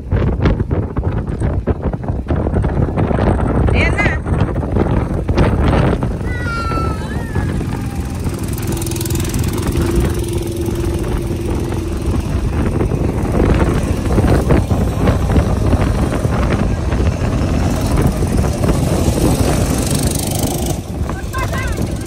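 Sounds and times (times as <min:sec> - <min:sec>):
go-kart engine running: 0:00.0 - 0:22.0
wind rushing on microphone: 0:00.0 - 0:22.0.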